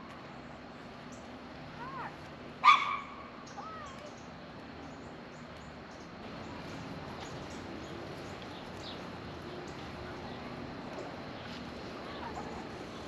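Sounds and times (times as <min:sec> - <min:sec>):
small birds chirping: 0:00.2 - 0:02.2, 0:03.3 - 0:13.0.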